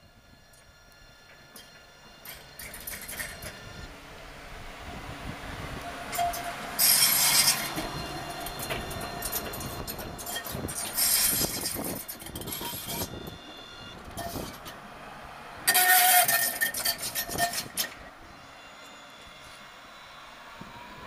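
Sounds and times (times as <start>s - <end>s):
tram passing: 0.0s - 21.0s
wheels squealing on rails: 0.0s - 21.0s.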